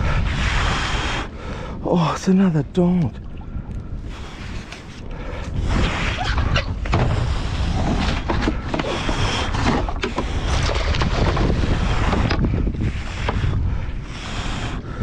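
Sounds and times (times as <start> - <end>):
wind buffeting microphone: 0.0 - 15.0
water sloshing around kayak: 2.7 - 15.0.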